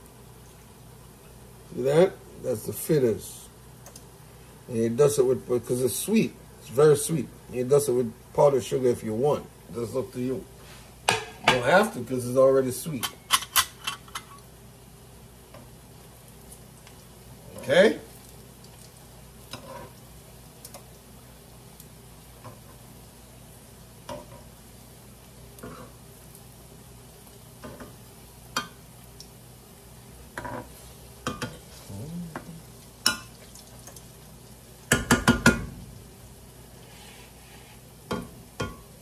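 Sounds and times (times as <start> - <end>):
faint sizzle of frying: 0.0 - 39.0.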